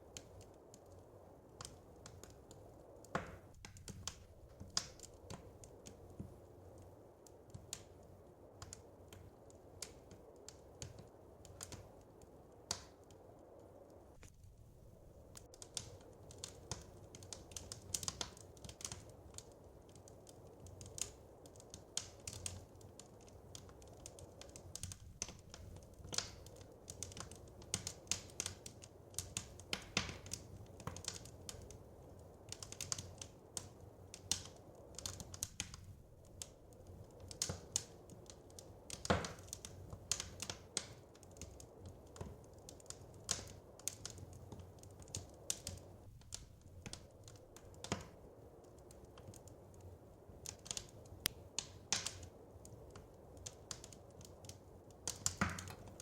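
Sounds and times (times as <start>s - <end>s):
low steady rush: 0.0s - 56.0s
wood fire crackling: 0.0s - 56.0s.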